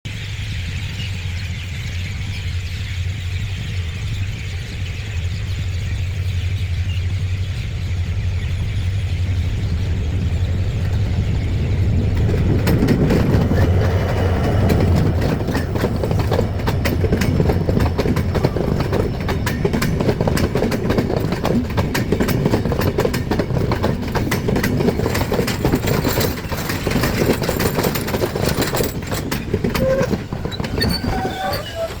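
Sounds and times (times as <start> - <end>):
train rumbling: 0.1 - 32.0
wheels clacking over rail joints: 2.3 - 32.0.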